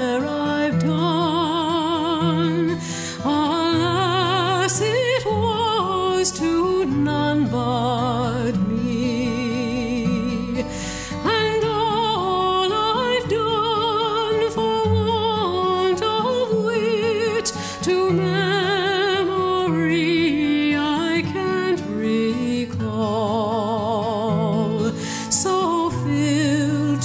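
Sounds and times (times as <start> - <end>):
person singing slow melody: 0.0 - 27.0.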